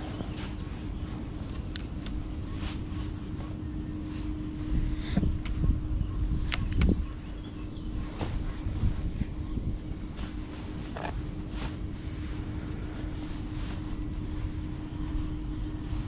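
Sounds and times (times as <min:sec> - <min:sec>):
faint hum: 0:00.0 - 0:16.0
steady low rumble: 0:00.0 - 0:16.0.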